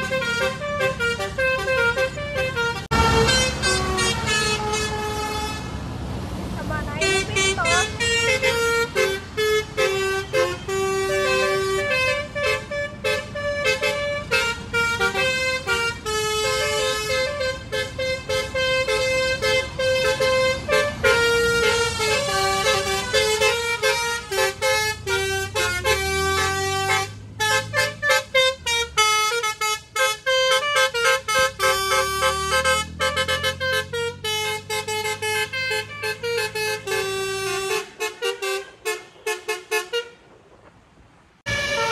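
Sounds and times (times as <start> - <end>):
horns playing a fast melody: 0.0 - 5.7, 6.6 - 40.2, 41.5 - 41.9
deeper horn tone: 0.0 - 5.8, 6.6 - 40.3, 41.4 - 41.9.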